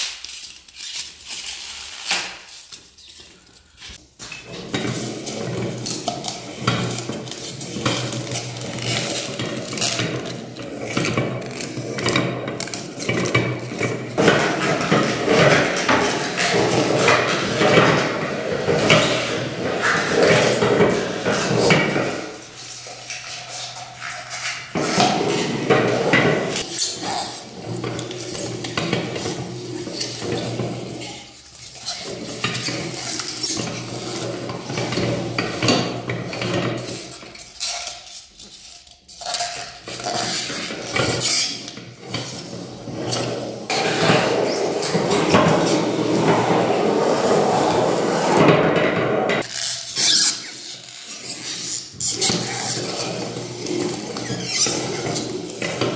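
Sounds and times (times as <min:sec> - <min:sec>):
metallic clatter of meat grinder: 0:04.2 - 0:55.9.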